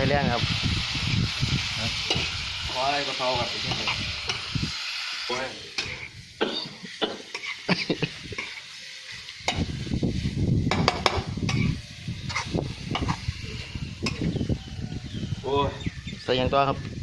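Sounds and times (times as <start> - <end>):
stir-fry sizzling in a wok: 0.0 - 16.0.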